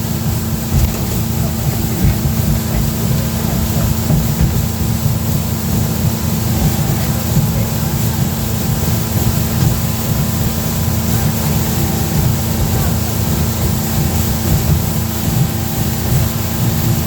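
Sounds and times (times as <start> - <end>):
motorboat engine droning: 0.0 - 17.0
water noise: 0.0 - 17.0.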